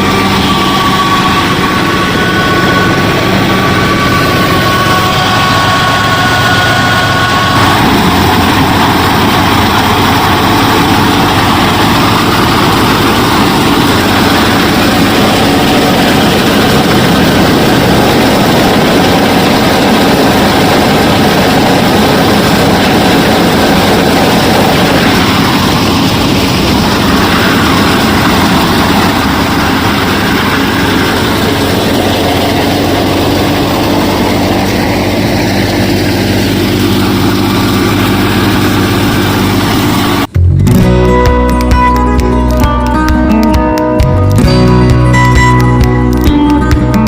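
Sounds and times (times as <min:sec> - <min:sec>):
harvester motor running: 0:00.0 - 0:47.0
high two-tone whine: 0:00.0 - 0:47.0.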